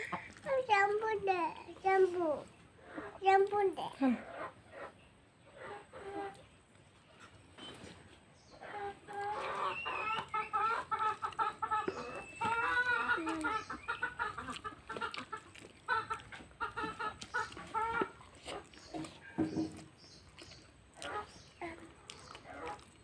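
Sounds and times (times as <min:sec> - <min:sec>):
chickens clucking and cackling: 0:00.0 - 0:03.4, 0:04.0 - 0:23.0.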